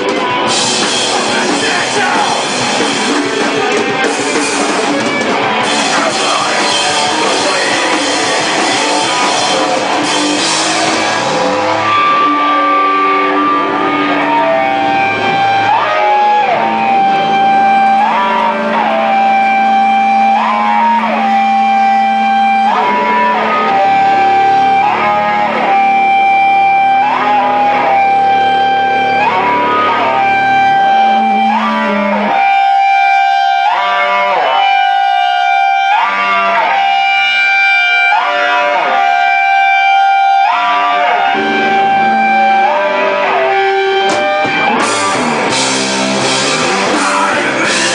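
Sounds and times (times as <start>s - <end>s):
electric guitar riff: 0.0s - 47.9s.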